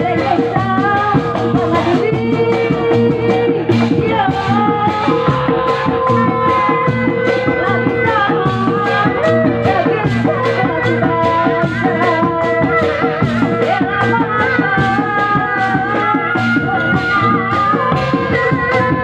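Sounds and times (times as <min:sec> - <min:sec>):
drums playing fast beat: 0:00.0 - 0:19.0
wavering melody: 0:00.0 - 0:19.0.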